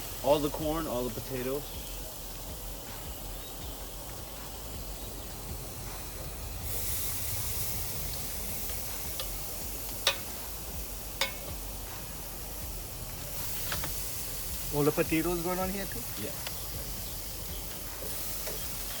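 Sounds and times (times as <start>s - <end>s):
food sizzling on grill: 0.0s - 19.0s.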